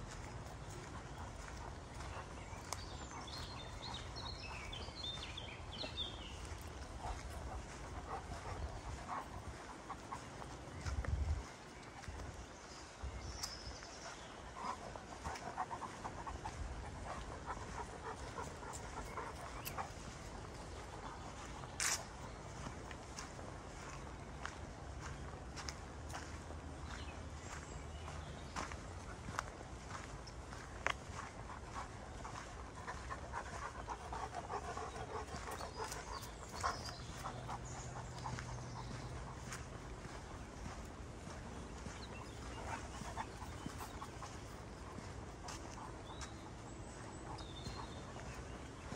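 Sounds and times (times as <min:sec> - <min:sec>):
dog panting: 0:00.0 - 0:12.3, 0:13.8 - 0:27.6, 0:28.6 - 0:48.9.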